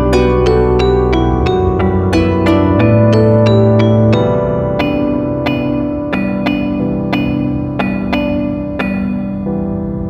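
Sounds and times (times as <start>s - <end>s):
slow piano notes: 0.0s - 10.0s.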